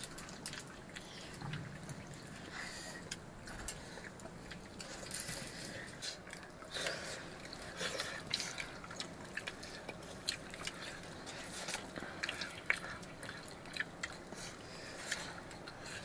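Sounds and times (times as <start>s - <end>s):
people chewing: 0.0s - 16.0s
small clicks and wet sounds on plates: 0.0s - 16.0s.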